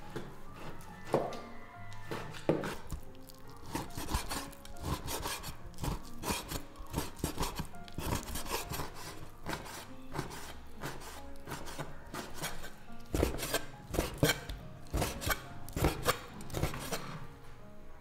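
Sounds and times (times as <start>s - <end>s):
cleaver chopping meat on wood: 2.0s - 17.2s.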